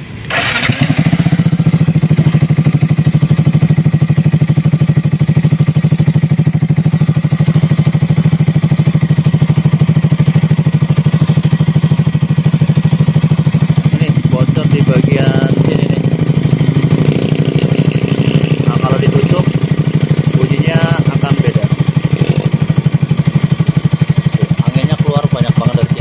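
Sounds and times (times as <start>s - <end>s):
motorcycle engine starting and idling: 0.0s - 26.0s.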